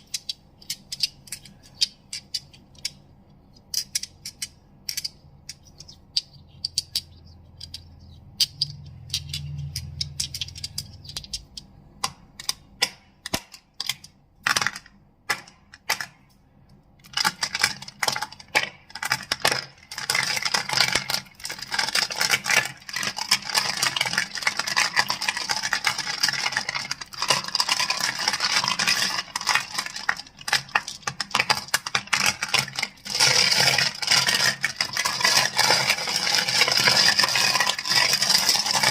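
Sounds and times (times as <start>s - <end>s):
crystals clicking and clacking: 0.0s - 16.1s, 17.0s - 38.9s.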